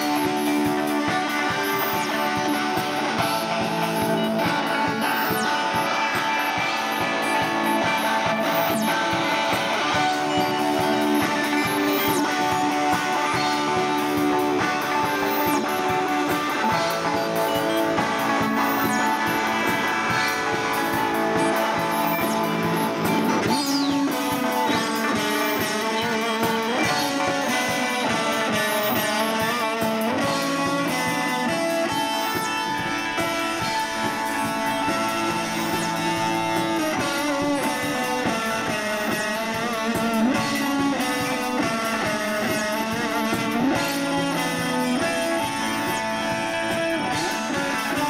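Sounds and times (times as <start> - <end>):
strummed electric guitar band music: 0.0 - 48.0.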